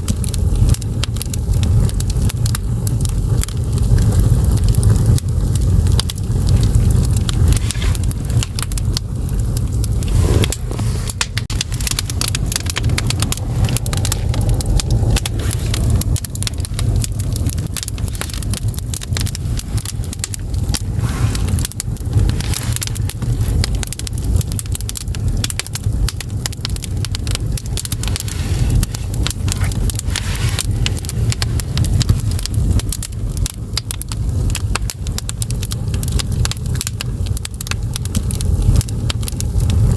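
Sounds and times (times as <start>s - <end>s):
firewood crackling and popping: 0.0s - 39.9s
low fire rumble: 0.0s - 39.9s.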